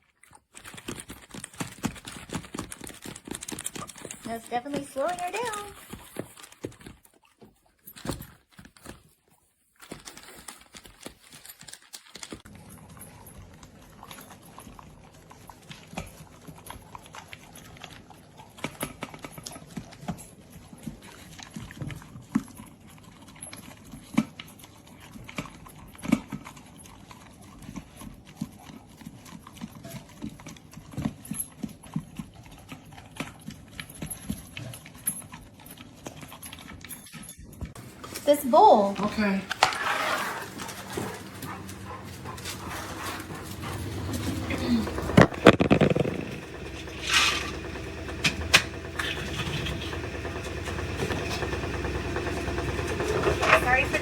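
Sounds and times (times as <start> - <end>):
dog eating from a bowl: 0.0 - 9.2, 9.8 - 54.0.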